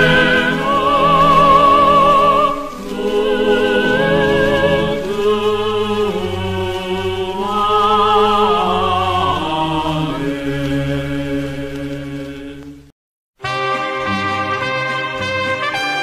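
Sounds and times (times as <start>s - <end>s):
low musical accompaniment: 0.0s - 12.6s, 13.4s - 16.0s
voices singing with vibrato: 0.0s - 12.9s.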